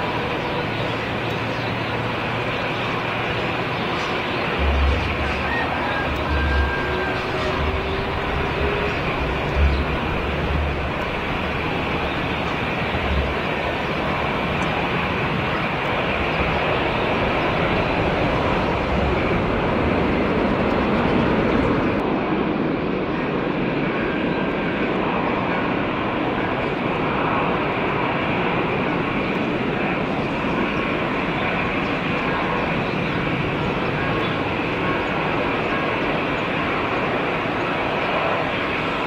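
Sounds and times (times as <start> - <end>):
jet engines on runway: 0.0 - 39.0.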